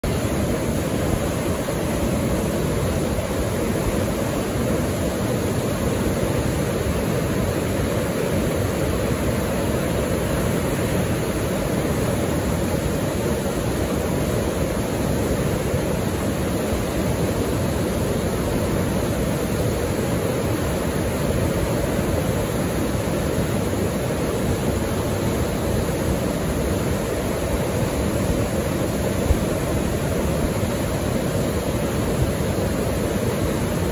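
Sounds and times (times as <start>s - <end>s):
whitewater rushing through rapids: 0.0s - 33.9s.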